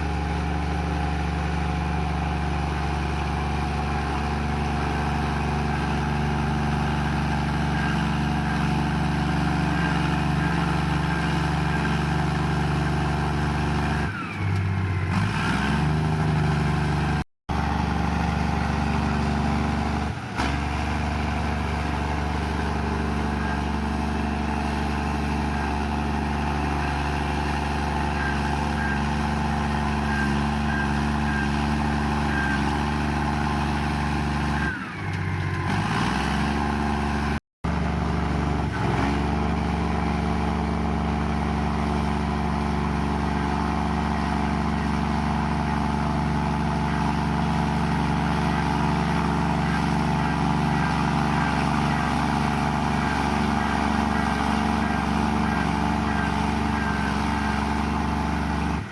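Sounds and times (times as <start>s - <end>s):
bulldozer diesel engine droning: 0.0s - 58.9s.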